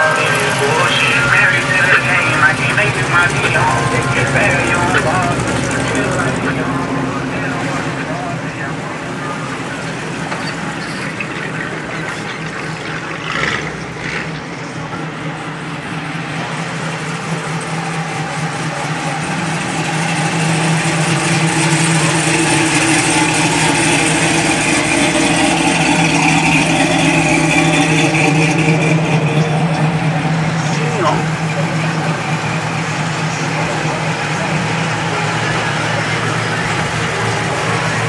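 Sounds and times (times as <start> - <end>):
car engines rumbling at idle: 0.0 - 38.0.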